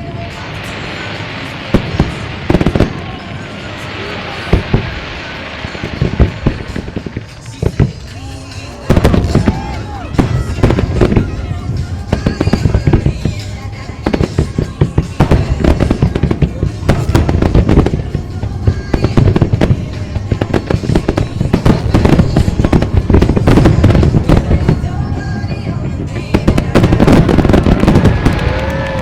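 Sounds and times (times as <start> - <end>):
fireworks bursting: 0.0 - 29.0
music playing: 0.0 - 29.0.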